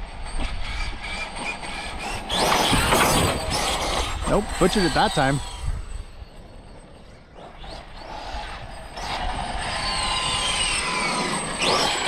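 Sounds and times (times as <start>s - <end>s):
electric motor whining: 0.3s - 12.0s.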